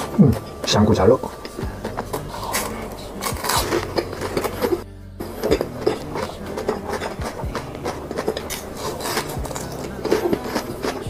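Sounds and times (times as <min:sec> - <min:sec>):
chewing with wet mouth clicks: 0:01.4 - 0:04.8, 0:05.4 - 0:11.0.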